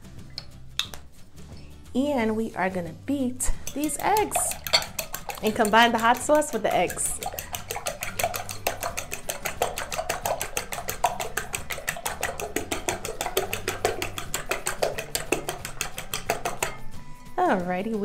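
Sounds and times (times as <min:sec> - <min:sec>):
fork beating eggs in glass bowl: 0:02.2 - 0:16.9.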